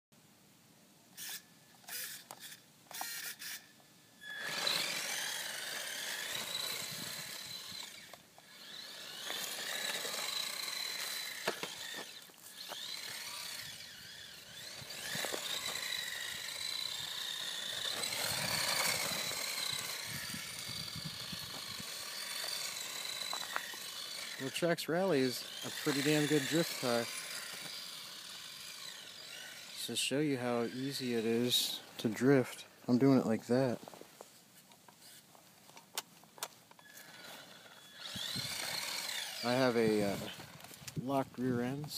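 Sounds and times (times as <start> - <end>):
electric toy car motor whining: 1.2 - 31.8, 36.8 - 41.0.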